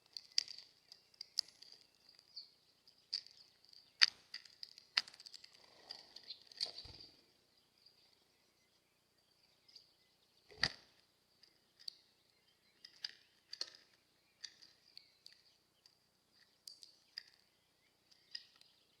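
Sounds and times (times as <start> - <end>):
bird pecking seeds: 0.0 - 7.2, 9.6 - 19.0.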